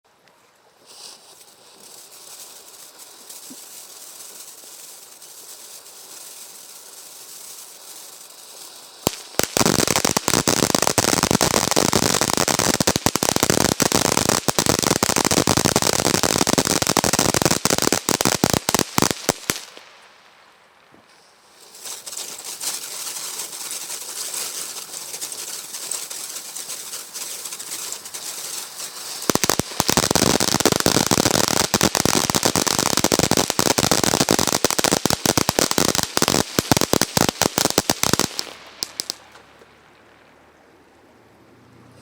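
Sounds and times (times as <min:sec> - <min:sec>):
firework fountain hissing: 0:00.8 - 0:20.2, 0:21.2 - 0:39.7
dense crackling pops: 0:00.9 - 0:39.8.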